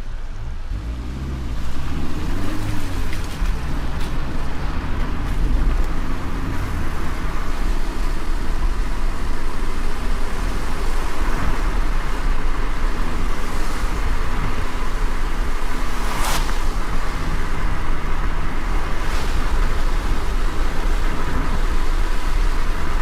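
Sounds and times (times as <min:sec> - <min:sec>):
car rumbling on wet road: 0:00.0 - 0:23.0
rain and tyre spray hiss: 0:00.2 - 0:23.0.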